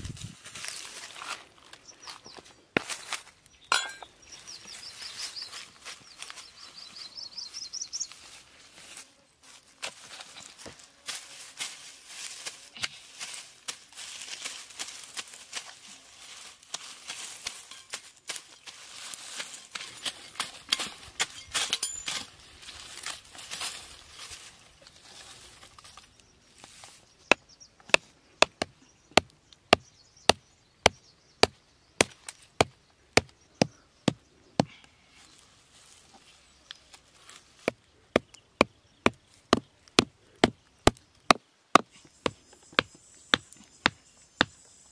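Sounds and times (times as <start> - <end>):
rustling in grass and dry leaves: 0.0 - 28.2, 32.1 - 44.9.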